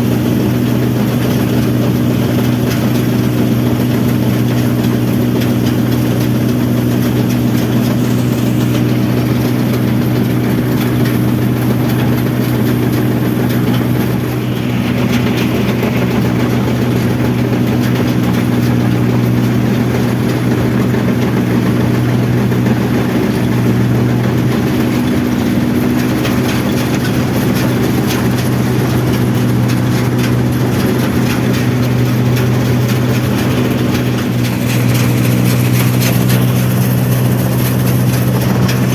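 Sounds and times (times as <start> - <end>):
harvester engine droning: 0.0 - 38.9.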